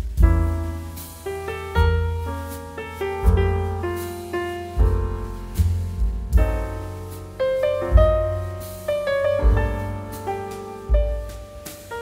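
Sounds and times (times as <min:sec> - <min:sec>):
low bass notes: 0:00.0 - 0:12.0
piano notes: 0:00.0 - 0:12.0.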